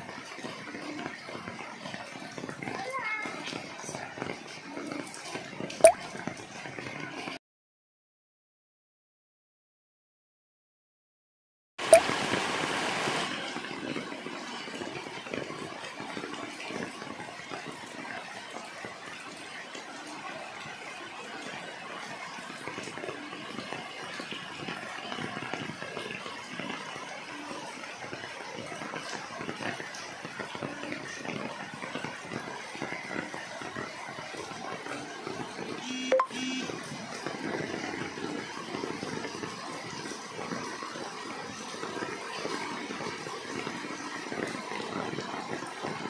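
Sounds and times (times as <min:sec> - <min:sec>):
rain falling on leaves: 0:00.0 - 0:07.3, 0:12.0 - 0:46.0.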